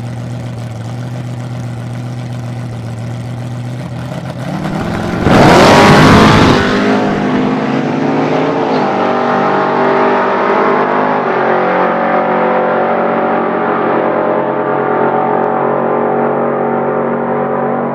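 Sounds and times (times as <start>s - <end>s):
pickup truck engine at full throttle: 0.0s - 17.9s.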